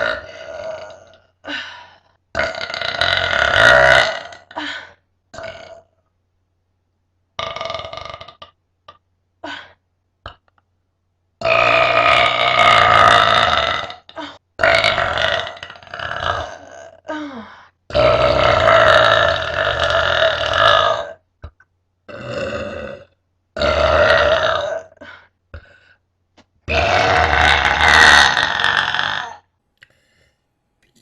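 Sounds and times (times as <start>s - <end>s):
person burping: 0.0s - 1.6s, 2.3s - 6.0s, 7.4s - 10.6s, 11.4s - 17.3s, 17.9s - 25.7s, 26.7s - 29.5s.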